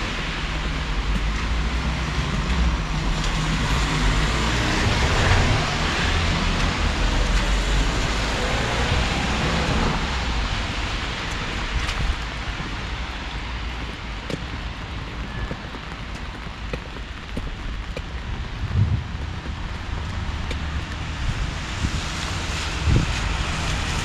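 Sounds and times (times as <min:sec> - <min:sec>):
road traffic rumble and hiss: 0:00.0 - 0:24.0.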